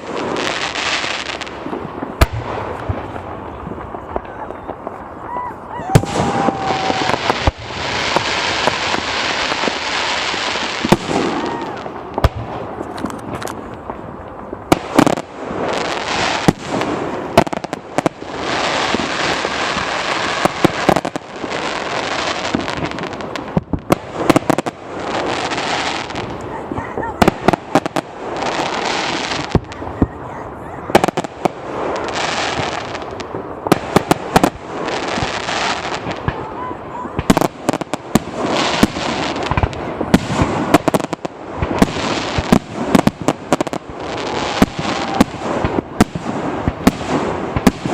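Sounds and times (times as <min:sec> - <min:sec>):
fireworks bangs: 0:00.0 - 0:47.9
fireworks hiss: 0:06.0 - 0:36.6, 0:37.2 - 0:47.9.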